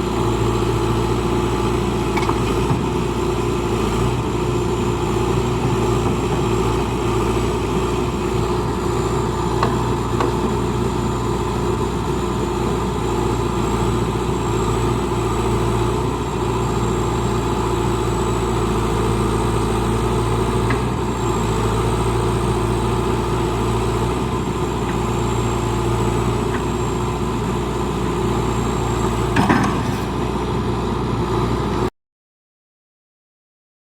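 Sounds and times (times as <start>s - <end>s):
diesel engine idling: 2.8s - 31.9s.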